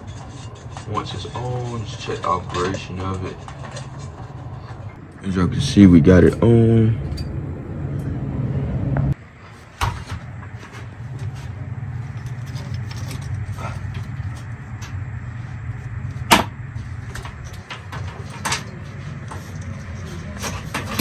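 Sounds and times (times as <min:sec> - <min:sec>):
fan motor humming: 0:00.0 - 0:21.0
lower steady hum: 0:03.6 - 0:21.0.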